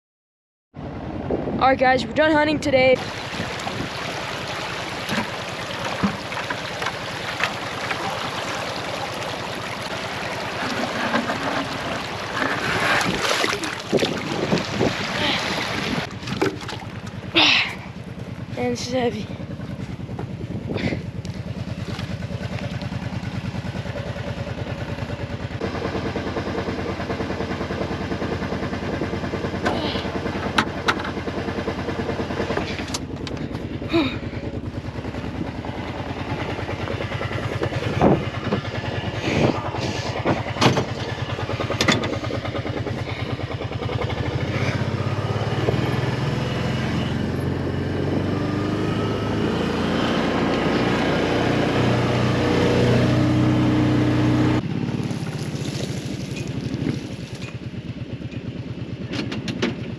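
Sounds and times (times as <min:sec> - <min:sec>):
vehicle engine running: 0:00.8 - 0:59.9.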